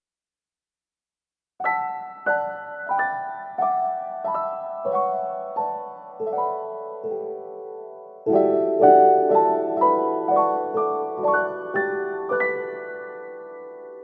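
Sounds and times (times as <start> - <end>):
slow piano tune: 1.6 - 14.0.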